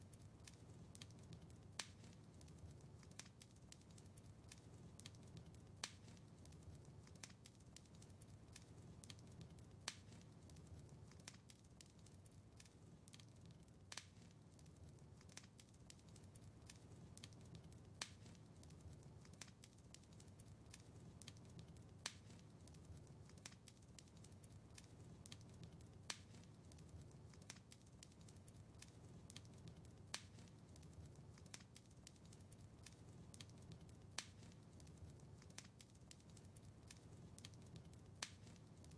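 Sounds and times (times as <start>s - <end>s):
fire popping: 0.0s - 38.9s
low rumble of flames: 0.0s - 38.9s
wood fire crackling: 0.0s - 38.9s.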